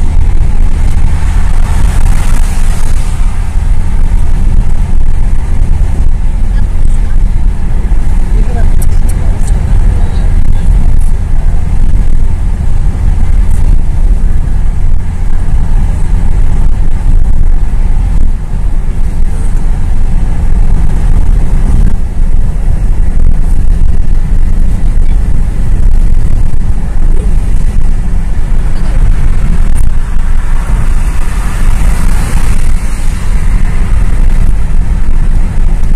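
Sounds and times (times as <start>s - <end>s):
road and engine rumble inside car: 0.0s - 35.9s.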